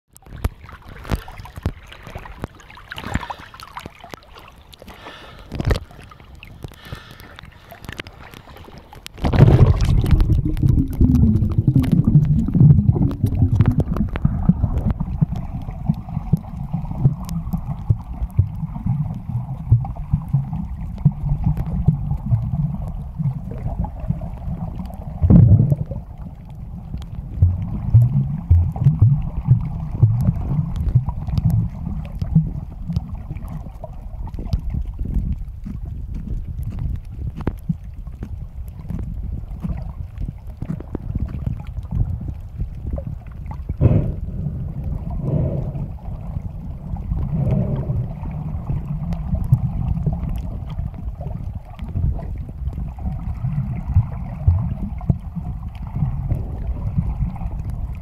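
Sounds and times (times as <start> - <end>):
underwater rumble and sloshing: 0.1 - 58.0.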